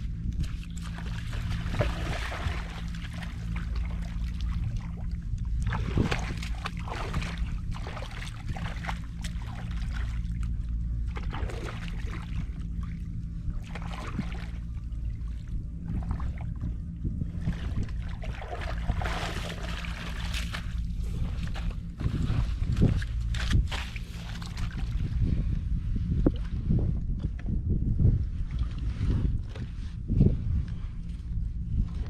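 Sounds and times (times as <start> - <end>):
steady low hum: 0.0 - 32.0
water splashing against boat: 0.0 - 32.0.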